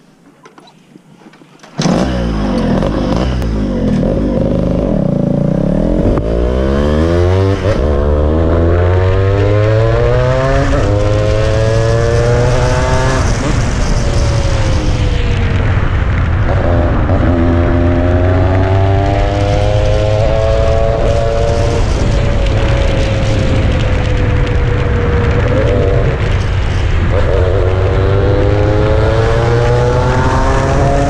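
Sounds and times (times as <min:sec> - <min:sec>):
motorcycle engine accelerating: 0:01.7 - 0:31.0.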